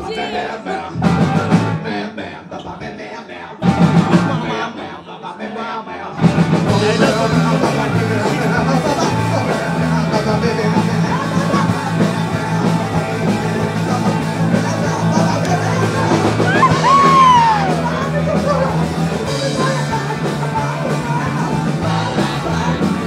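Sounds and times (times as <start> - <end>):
live rock and roll band: 0.0 - 2.0, 3.6 - 4.7, 6.2 - 23.0
shouted singing: 0.0 - 23.0.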